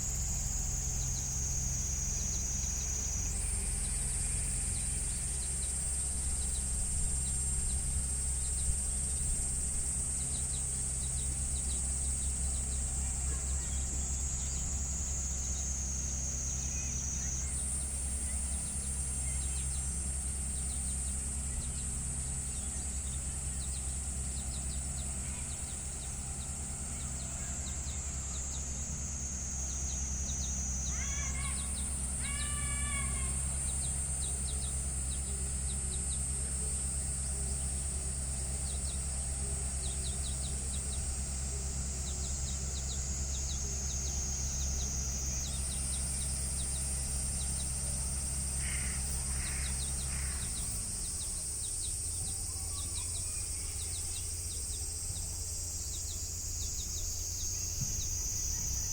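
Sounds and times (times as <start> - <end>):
tractor engine running: 0.0 - 58.9
bird calls: 10.2 - 58.9.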